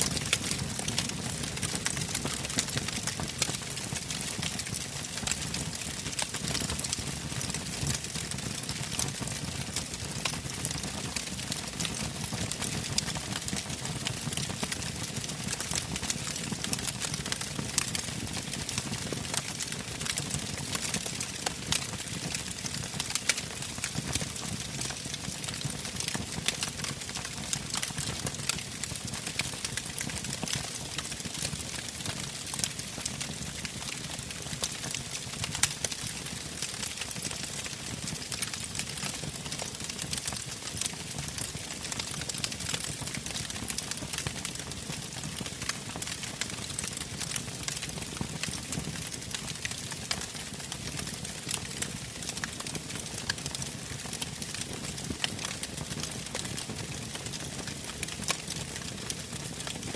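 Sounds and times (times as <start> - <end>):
wood crackling and popping: 0.0 - 59.8.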